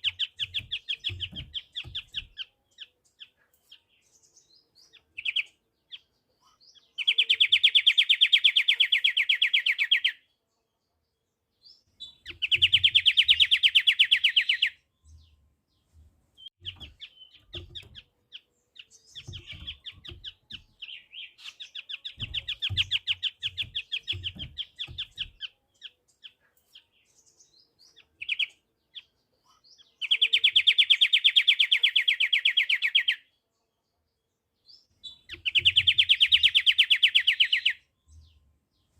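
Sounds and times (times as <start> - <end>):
bird singing fast trills: 0.0 - 10.3, 11.6 - 15.4, 16.4 - 33.3, 34.7 - 38.9
bird chirps: 0.0 - 38.9.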